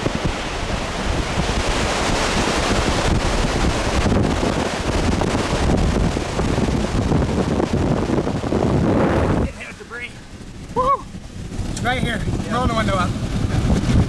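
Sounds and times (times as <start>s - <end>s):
strong wind rushing: 0.0s - 14.0s
wind buffeting microphone: 0.0s - 14.0s.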